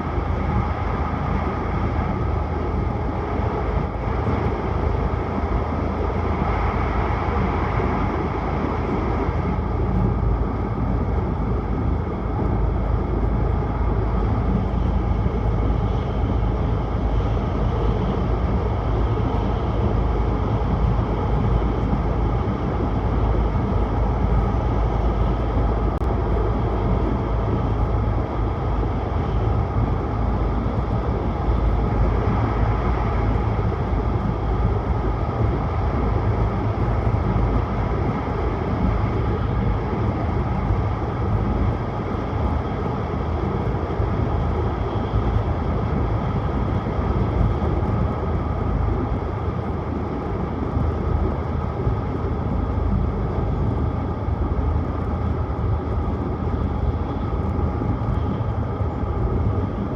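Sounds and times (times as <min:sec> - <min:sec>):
train running with deep rumble: 0:00.0 - 0:59.9.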